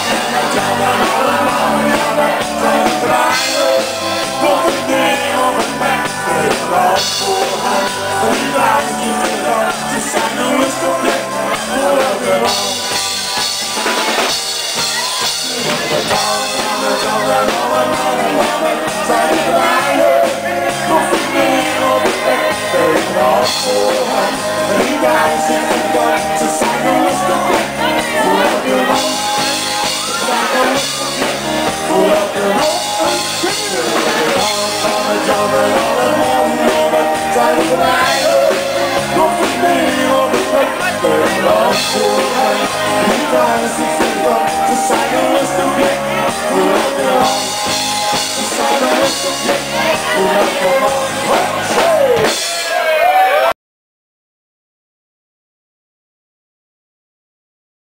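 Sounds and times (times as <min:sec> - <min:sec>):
person singing: 0:00.0 - 0:53.4
drums: 0:00.0 - 0:53.5
live band playing: 0:00.0 - 0:53.5.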